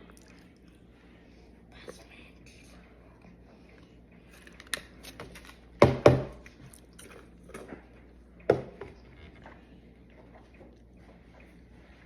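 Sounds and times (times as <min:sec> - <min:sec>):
quiet chewing: 0:00.0 - 0:05.6, 0:06.4 - 0:12.0.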